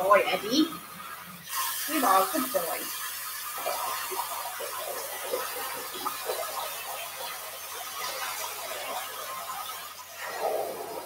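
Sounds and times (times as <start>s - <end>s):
shower spraying water: 0.0s - 11.0s.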